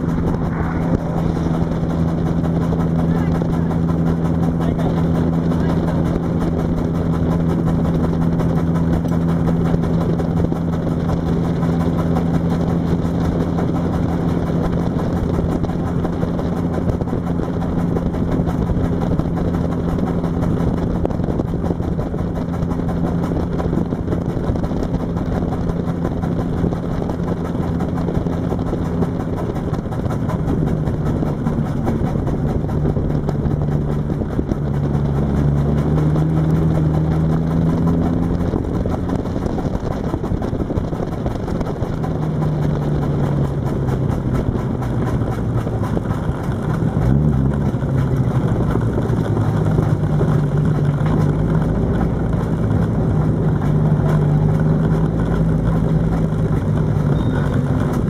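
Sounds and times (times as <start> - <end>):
car engine running: 0.0 - 58.0
wind and road noise: 0.0 - 58.0.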